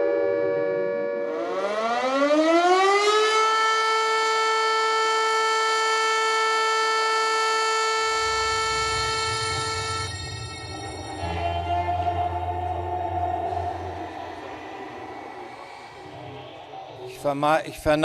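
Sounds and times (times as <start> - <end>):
civil defence sirens wailing: 0.0 - 17.5.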